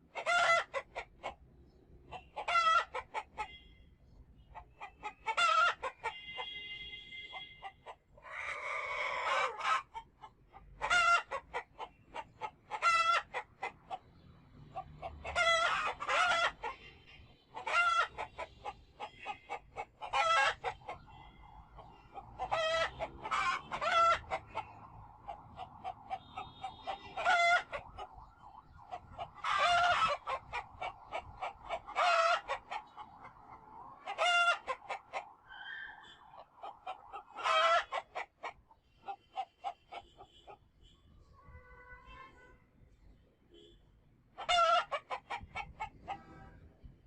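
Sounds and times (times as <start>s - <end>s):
chickens clucking: 0.0s - 3.6s, 4.4s - 6.2s, 7.3s - 40.6s, 44.4s - 46.5s
chicken squawk: 0.1s - 1.4s, 2.1s - 3.6s, 4.6s - 6.5s, 7.3s - 14.0s, 14.7s - 16.9s, 17.5s - 28.1s, 28.9s - 40.6s, 44.4s - 46.4s.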